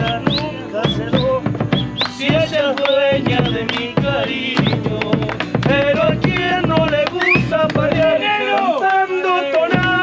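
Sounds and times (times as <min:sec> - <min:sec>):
bass drum beat: 0:00.0 - 0:08.6, 0:09.6 - 0:10.0
guitars playing folk music: 0:00.0 - 0:10.0.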